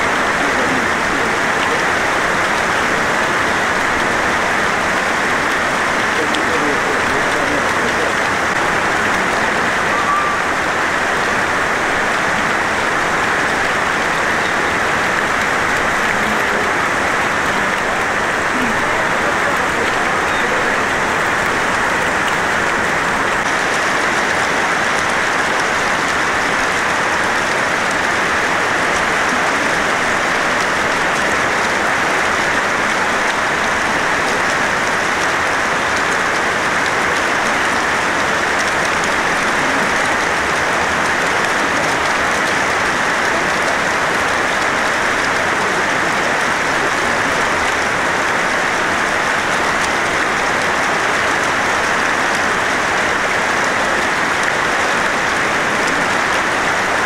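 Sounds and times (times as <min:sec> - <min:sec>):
running water splashing: 0:00.0 - 0:57.0.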